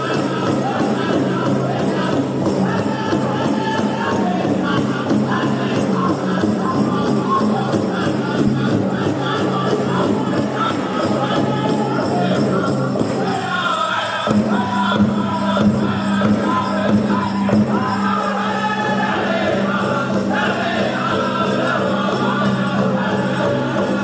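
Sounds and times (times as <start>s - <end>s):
big drum beat: 0.0s - 13.6s, 14.3s - 24.0s
bells jingling: 0.0s - 24.0s
group singing in chorus: 0.0s - 24.0s.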